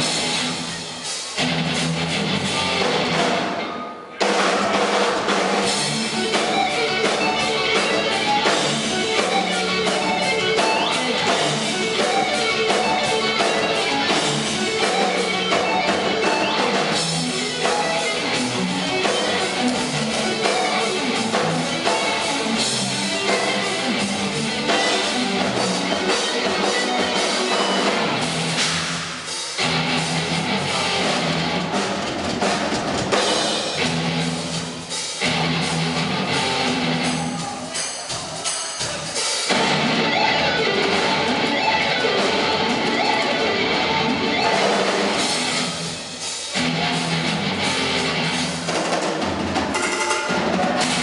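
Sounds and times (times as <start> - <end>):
drum kit: 0.0 - 51.0
electric guitar: 0.0 - 51.0.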